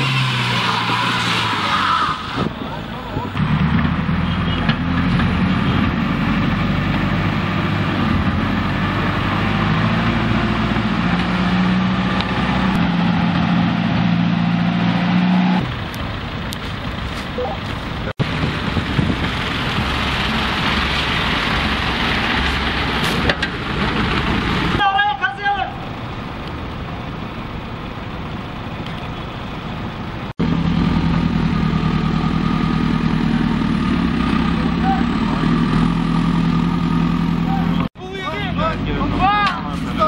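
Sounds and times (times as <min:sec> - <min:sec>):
vehicle moving on snowy road: 0:00.0 - 0:24.8, 0:26.0 - 0:40.0
diesel engine running under load: 0:02.4 - 0:14.3, 0:15.6 - 0:24.8, 0:25.8 - 0:40.0.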